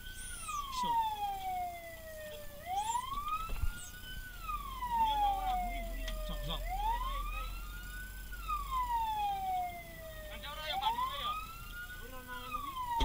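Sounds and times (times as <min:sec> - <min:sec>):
fire truck siren wailing: 0:00.0 - 0:13.0.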